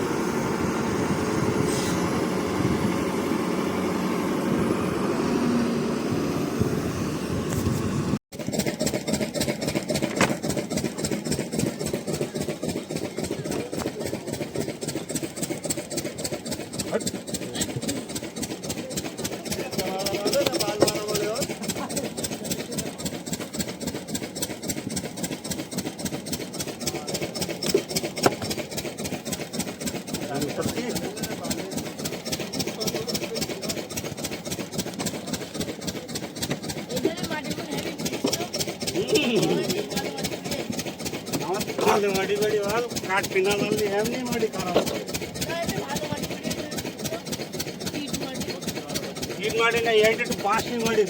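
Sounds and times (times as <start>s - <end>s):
engine chugging: 0.0s - 51.0s
heavy machine engine running: 0.0s - 51.0s.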